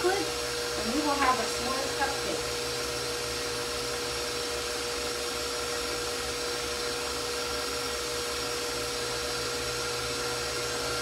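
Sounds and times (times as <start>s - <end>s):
stand mixer motor whine: 0.0s - 11.0s.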